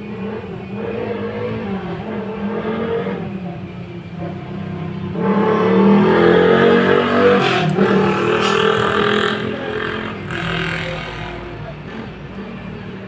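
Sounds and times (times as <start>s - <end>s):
vehicle engine revving passing by: 0.0s - 3.3s, 4.3s - 12.4s.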